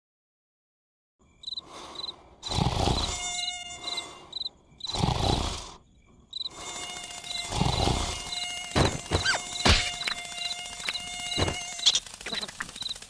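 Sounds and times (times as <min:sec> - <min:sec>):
cartoon mosquito buzzing: 0:01.7 - 0:05.8, 0:06.4 - 0:13.0.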